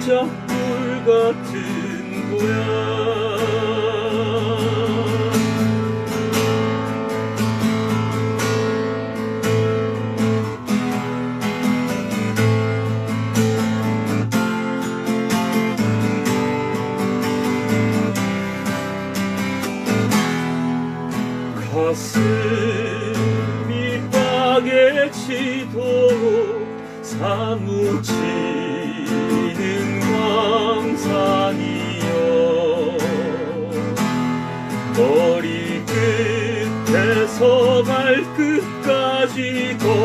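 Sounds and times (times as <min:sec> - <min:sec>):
acoustic guitar strumming chords: 0:00.0 - 0:40.0.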